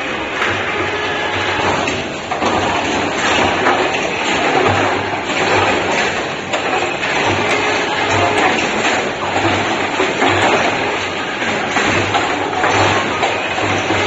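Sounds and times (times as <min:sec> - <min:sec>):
bottles moving on conveyor: 0:00.0 - 0:14.0
bottling machine mechanical din: 0:00.0 - 0:14.0.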